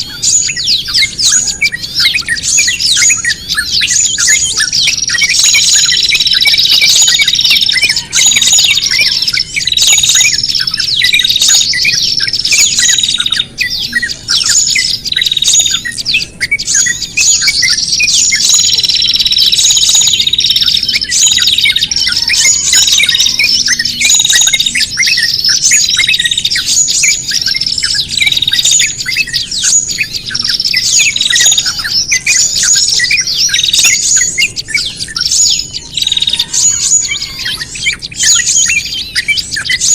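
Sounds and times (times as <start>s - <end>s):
small songbirds chirping and squawking: 0.0s - 39.9s.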